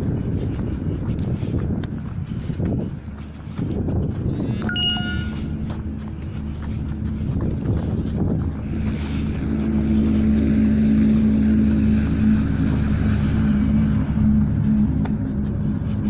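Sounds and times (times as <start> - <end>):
low engine drone: 2.2 - 16.0.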